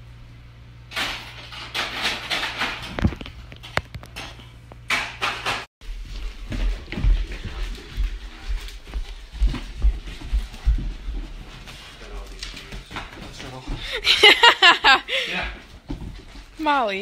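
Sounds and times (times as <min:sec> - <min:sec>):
rustling and clattering: 0:00.9 - 0:14.4, 0:15.5 - 0:17.0.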